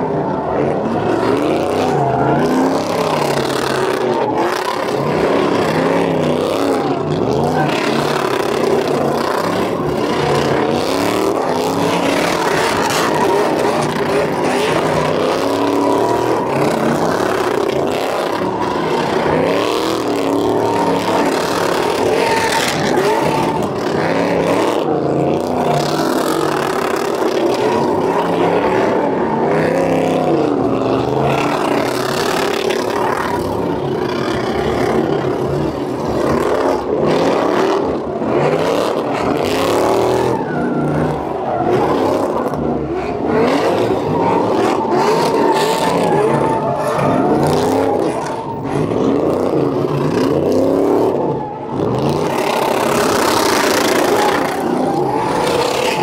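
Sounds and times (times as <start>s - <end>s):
truck engines revving hard: 0.0s - 56.0s
tyres spinning on pavement: 0.0s - 56.0s.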